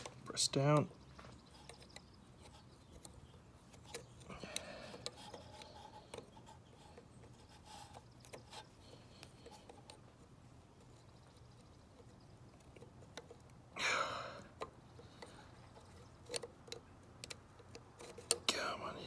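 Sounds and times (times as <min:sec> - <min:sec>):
pliers clicking and scraping metal: 0:00.0 - 0:10.2, 0:10.8 - 0:13.6, 0:14.5 - 0:18.6.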